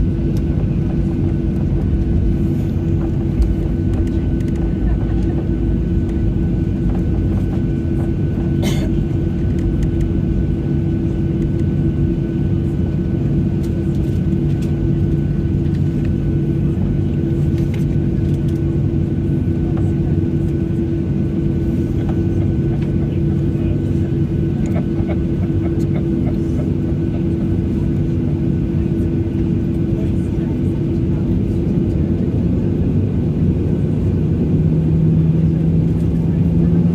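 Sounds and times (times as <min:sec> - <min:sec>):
airplane cabin drone: 0:00.0 - 0:36.9.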